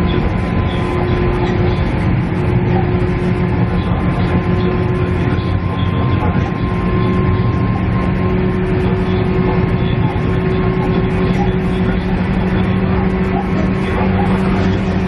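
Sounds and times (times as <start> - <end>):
diesel engine drone: 0.0 - 15.0
wheels rumbling on rail: 0.0 - 15.0.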